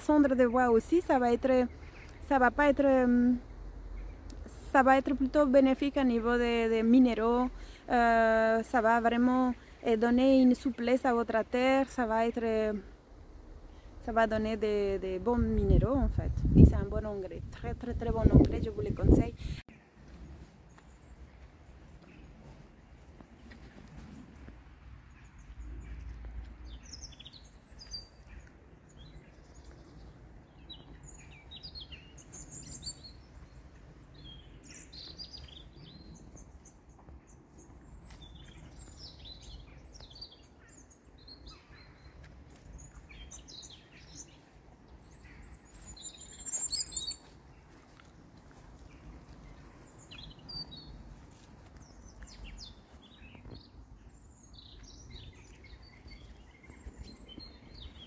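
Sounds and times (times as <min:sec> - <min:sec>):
small songbirds chirping: 0:00.0 - 0:12.9, 0:13.5 - 0:58.0.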